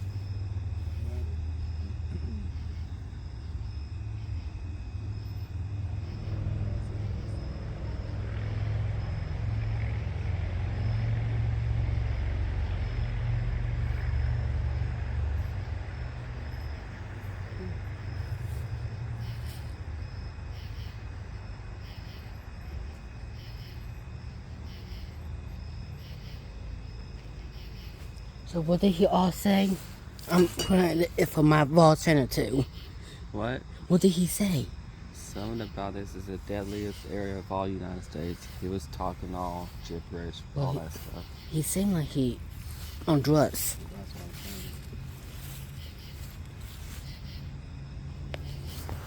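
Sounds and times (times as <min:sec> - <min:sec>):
faint insect drone: 0:00.0 - 0:49.0
motor vehicle rumble: 0:00.0 - 0:49.0.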